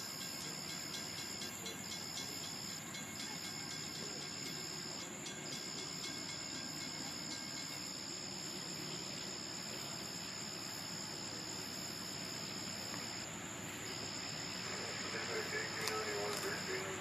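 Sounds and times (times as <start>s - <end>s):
distant train rumble: 0.0s - 17.0s
night insects trilling: 0.0s - 17.0s.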